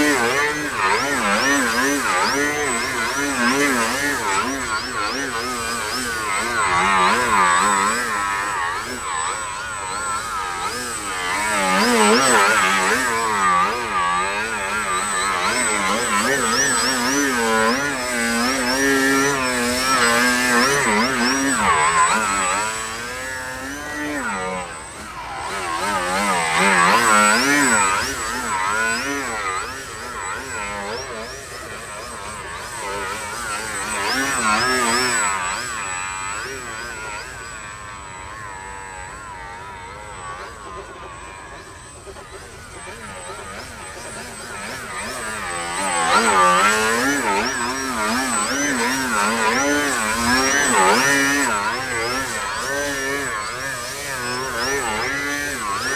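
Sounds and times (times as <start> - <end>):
model plane engine and propeller: 0.0 - 55.9.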